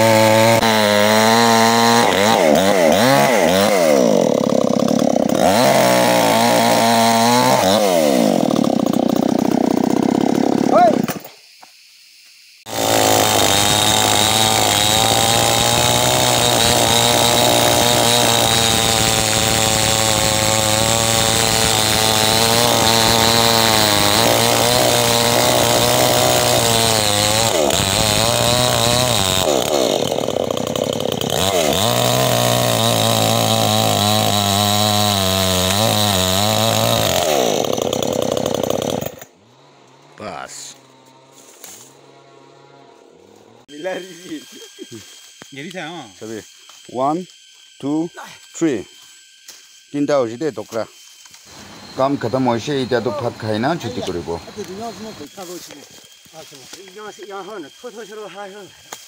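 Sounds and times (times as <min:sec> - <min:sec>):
chainsaw cutting log: 0:00.0 - 0:11.3, 0:12.7 - 0:59.0.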